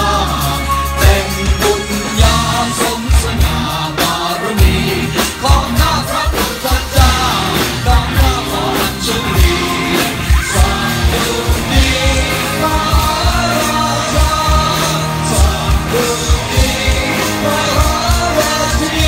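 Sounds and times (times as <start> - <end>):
live band with drum kits: 0.0 - 19.0
voices singing: 0.0 - 19.0.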